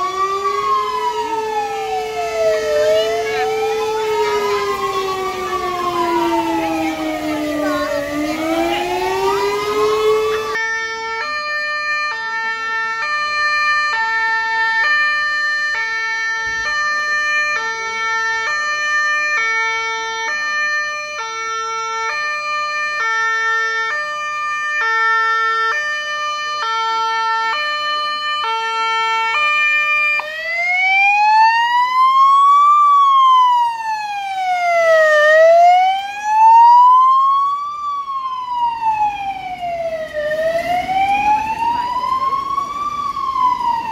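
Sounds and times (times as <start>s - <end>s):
fire engine siren: 0.0s - 43.9s.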